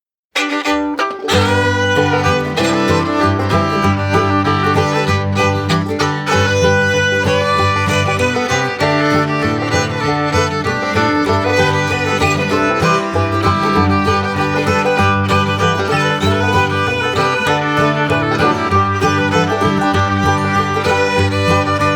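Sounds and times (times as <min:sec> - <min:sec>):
upbeat bluegrass music: 0:00.4 - 0:21.9.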